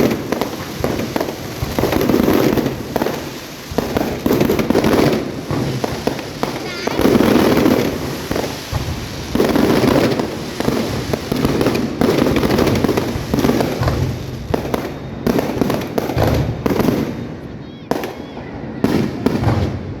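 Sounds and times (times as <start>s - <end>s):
sharp firework cracks: 0.0s - 17.2s, 17.9s - 20.0s
fireworks booming and crackling: 0.0s - 20.0s.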